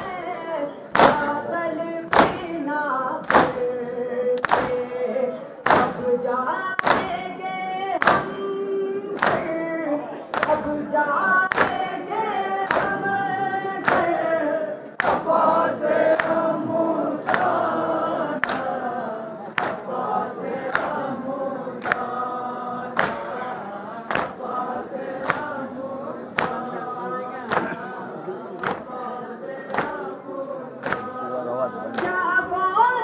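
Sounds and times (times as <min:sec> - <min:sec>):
crowd chanting a lament: 0:00.0 - 0:33.0.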